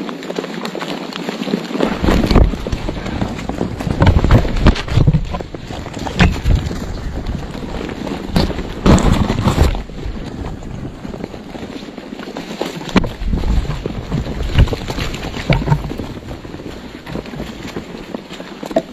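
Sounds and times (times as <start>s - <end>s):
birds scuffling and thumping: 0.1s - 18.9s.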